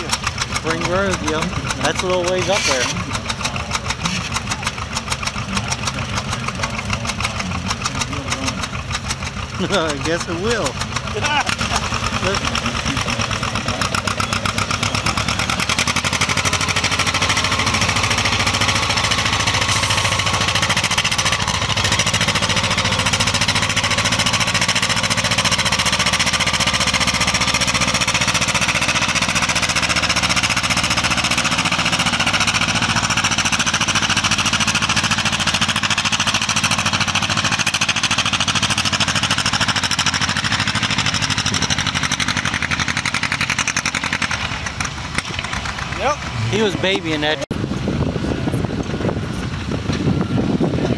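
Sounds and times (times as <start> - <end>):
tractor engine popping under load: 0.0 - 47.5.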